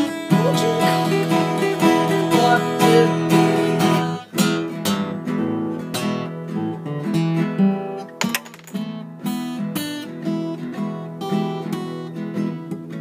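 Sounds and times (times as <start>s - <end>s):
acoustic guitars strumming: 0.0s - 13.0s.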